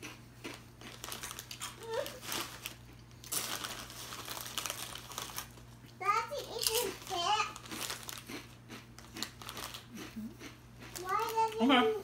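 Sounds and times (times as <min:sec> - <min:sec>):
plastic chip bag crinkling: 0:00.5 - 0:10.0, 0:10.9 - 0:11.8.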